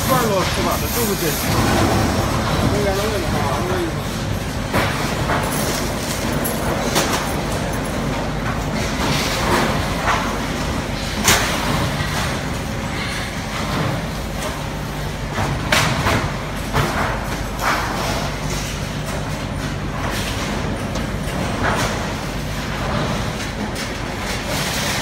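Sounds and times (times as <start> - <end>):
factory hum: 0.0 - 25.0.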